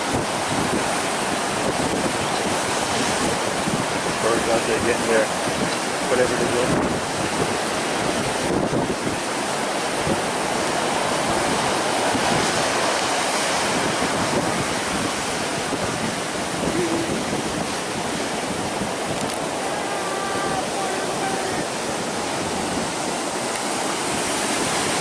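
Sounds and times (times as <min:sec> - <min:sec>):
surf breaking on beach: 0:00.0 - 0:25.0
wind buffeting microphone: 0:00.0 - 0:25.0.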